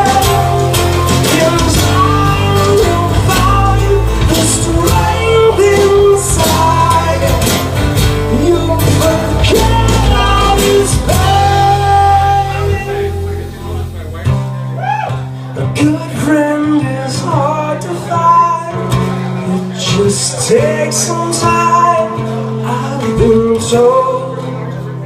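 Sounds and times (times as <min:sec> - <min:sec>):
live rock band music: 0:00.0 - 0:25.0
person singing: 0:00.0 - 0:25.0.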